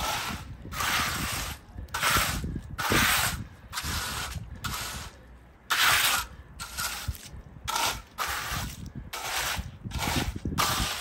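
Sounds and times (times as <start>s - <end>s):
trowel scraping wet concrete: 0.0s - 11.0s.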